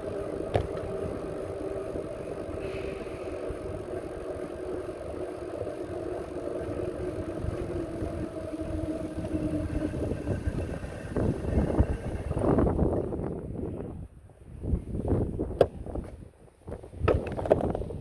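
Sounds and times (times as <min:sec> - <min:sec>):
bicycle tyres humming: 0:00.0 - 0:18.0
wind rumble on microphone: 0:00.0 - 0:18.0.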